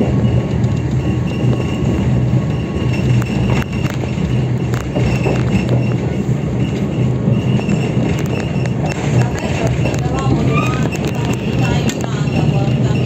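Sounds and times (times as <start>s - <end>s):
train low drone: 0.0s - 13.0s.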